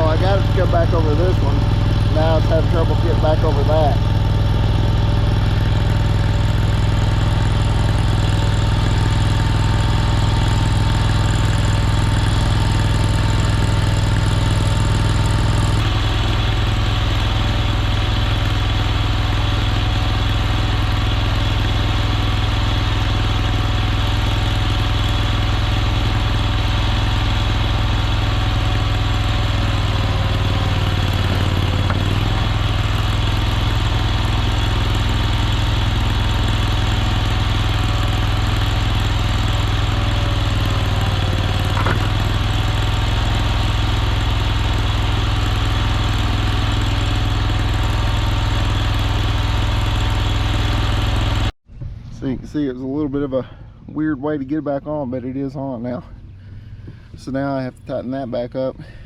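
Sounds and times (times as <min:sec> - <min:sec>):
skid steer engine running: 0:00.0 - 0:53.8, 0:54.4 - 0:57.8.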